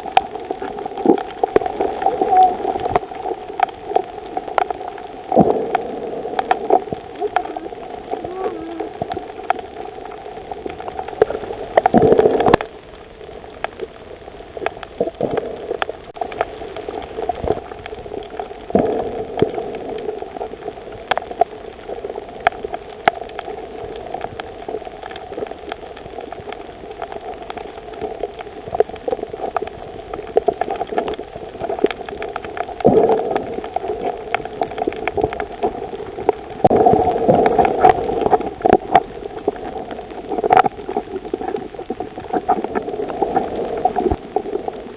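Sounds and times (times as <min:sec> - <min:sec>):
crackle of small reef clicks: 0:00.0 - 0:44.9
underwater gurgling bubbly surges: 0:00.0 - 0:44.9.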